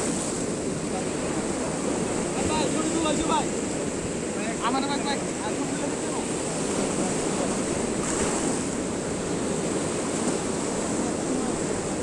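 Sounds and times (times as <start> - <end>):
waves breaking on sea wall: 0.0 - 12.0.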